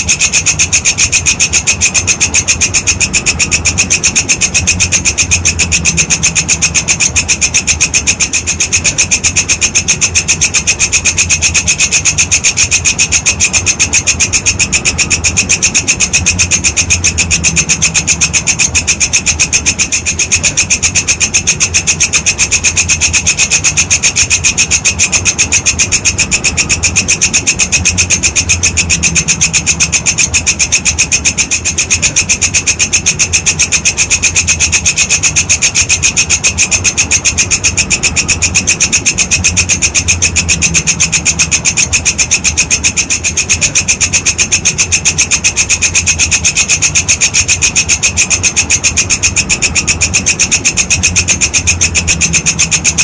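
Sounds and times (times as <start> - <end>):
insect stridulating: 0.0 - 53.0.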